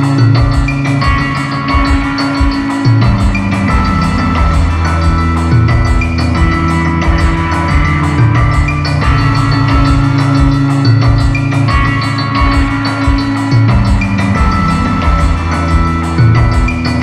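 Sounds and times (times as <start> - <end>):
held bass notes: 0.0 - 17.0
steady drum beat: 0.0 - 17.0.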